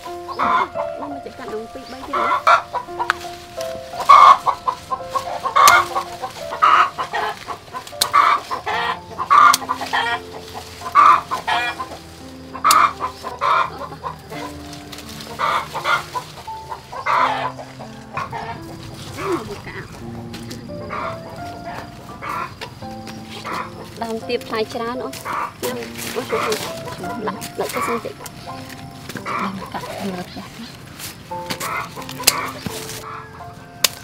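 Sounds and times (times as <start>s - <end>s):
chickens clucking: 0.0s - 34.0s
soft background music: 0.0s - 34.0s.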